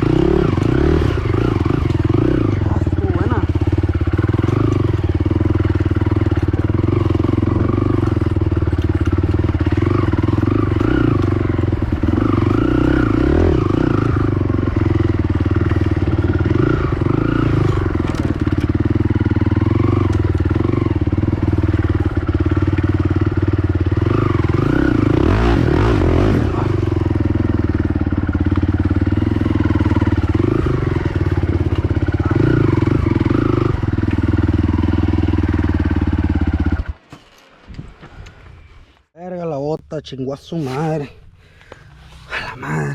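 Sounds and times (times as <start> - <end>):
quad bike engine running: 0.0 - 37.1.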